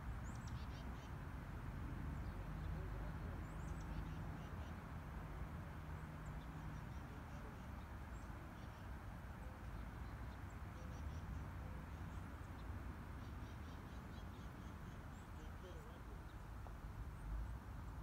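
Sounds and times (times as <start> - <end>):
small birds chirping: 0.2 - 1.2, 2.1 - 4.8, 6.0 - 18.0.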